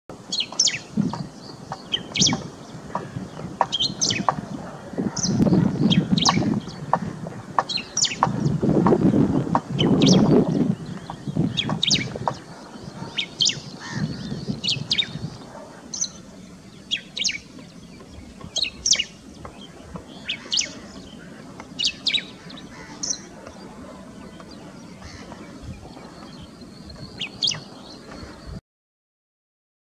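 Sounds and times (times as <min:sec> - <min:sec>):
bird sharp high calls: 0:00.3 - 0:28.6.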